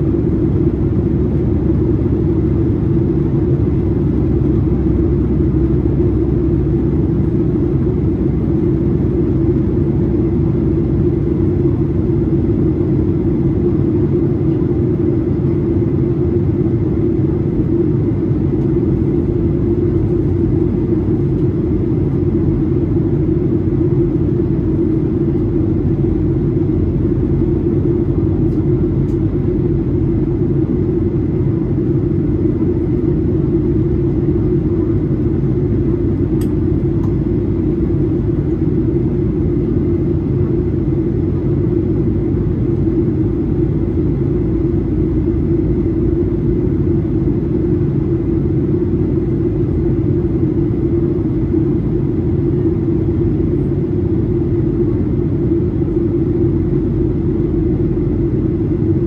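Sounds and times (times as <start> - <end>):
airplane cabin drone: 0.0 - 59.0
faint steady whine: 0.0 - 59.0.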